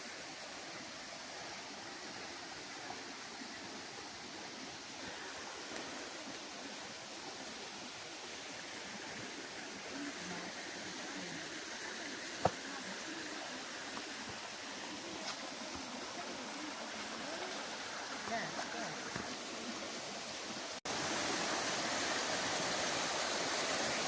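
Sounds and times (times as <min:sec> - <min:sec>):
stream and waterfalls rushing: 0:00.0 - 0:24.0.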